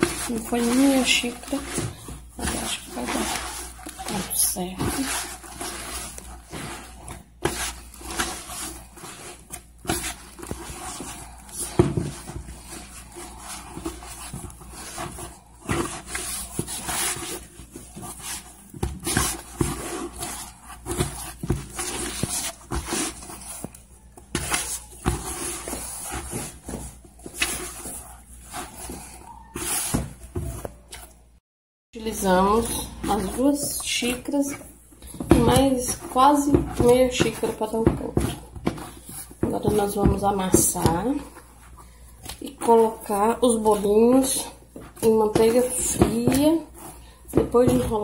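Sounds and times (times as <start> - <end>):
hands kneading sticky dough: 0.0 - 31.4, 32.0 - 48.0.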